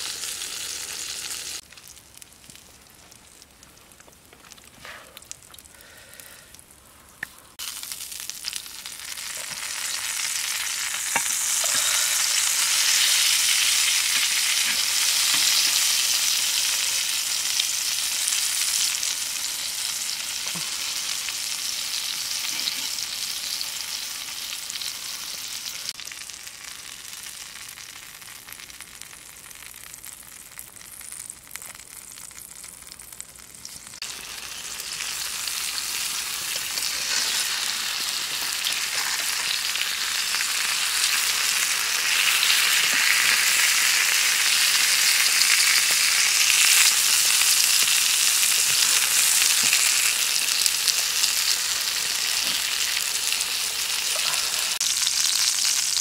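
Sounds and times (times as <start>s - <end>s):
slices sizzling in oil: 0.0s - 56.0s.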